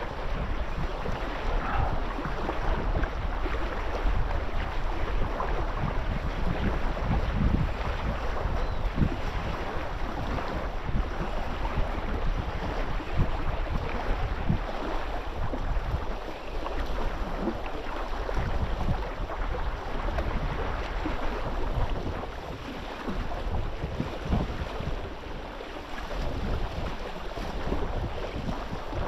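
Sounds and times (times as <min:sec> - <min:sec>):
water splashing against boat hull: 0:00.0 - 0:29.0
wind buffeting microphone: 0:00.0 - 0:29.0.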